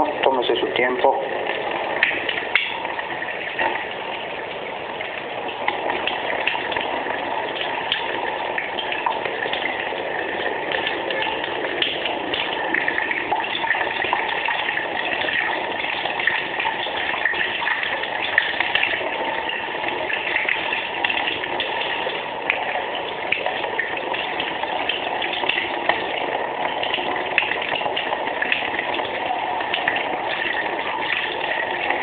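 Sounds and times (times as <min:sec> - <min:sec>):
tap water running: 0:00.0 - 0:32.0.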